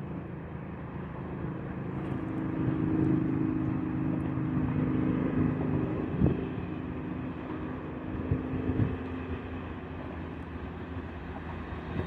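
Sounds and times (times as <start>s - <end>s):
locomotive steady hum: 0.0s - 12.0s
train low rumble: 0.0s - 12.0s.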